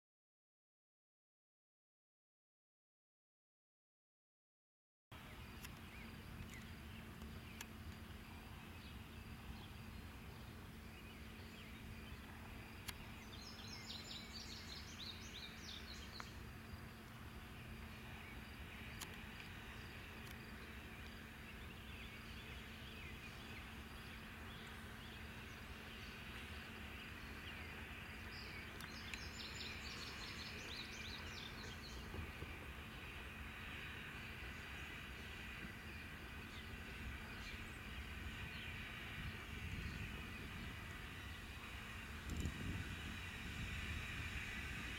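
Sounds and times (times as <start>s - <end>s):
small bird singing: 5.2s - 44.9s.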